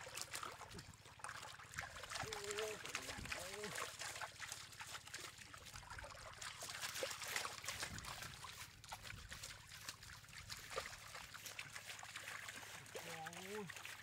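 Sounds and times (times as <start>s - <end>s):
muddy water splashing: 0.0s - 14.0s.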